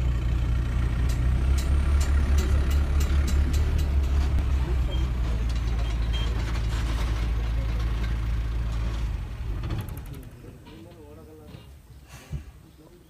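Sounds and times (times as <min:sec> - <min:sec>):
jeep engine rumbling: 0:00.0 - 0:12.0.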